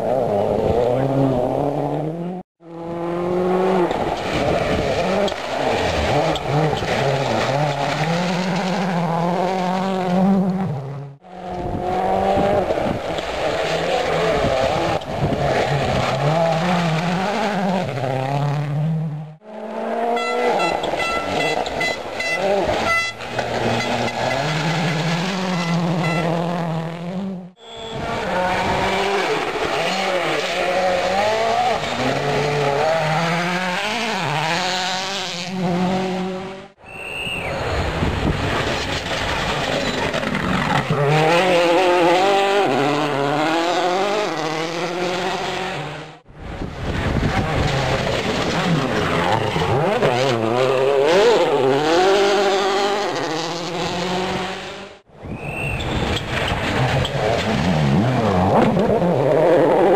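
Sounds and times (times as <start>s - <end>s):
rally car engines passing: 0.0s - 59.9s.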